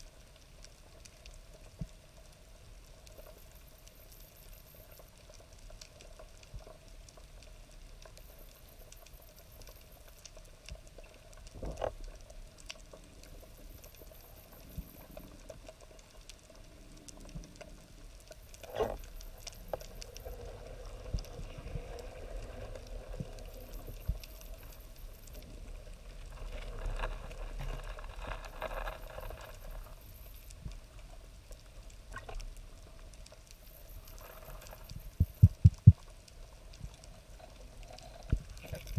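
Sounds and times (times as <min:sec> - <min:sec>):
underwater crackling clicks: 0:00.3 - 0:38.9.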